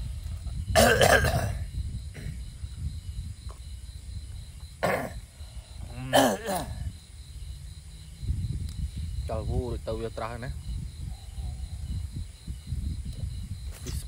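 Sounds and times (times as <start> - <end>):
steady low rumble: 0.0 - 6.1, 6.7 - 14.0.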